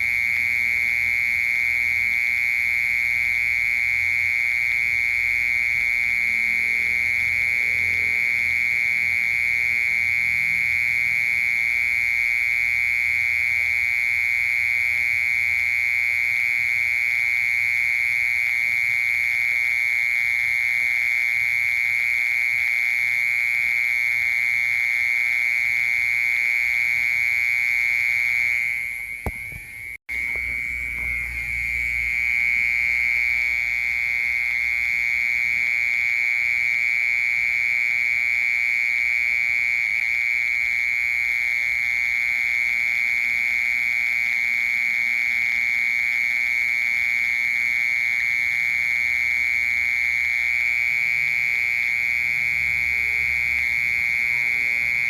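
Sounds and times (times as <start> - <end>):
mole cricket buzzing trill: 0.0 - 55.0.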